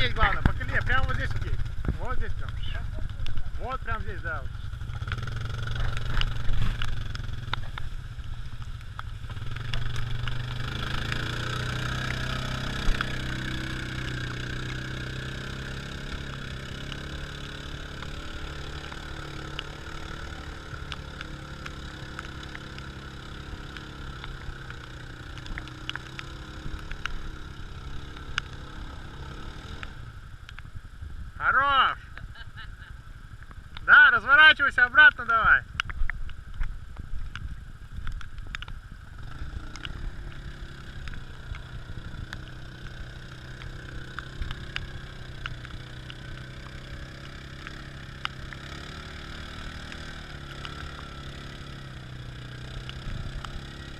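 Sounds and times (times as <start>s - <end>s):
off-road vehicle engine running: 0.0s - 53.9s.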